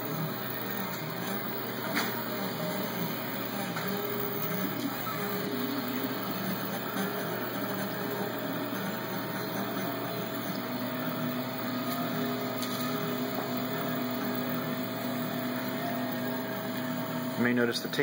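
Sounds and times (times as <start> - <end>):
steady whir: 0.0 - 18.0
stepper motors whining: 0.0 - 18.0.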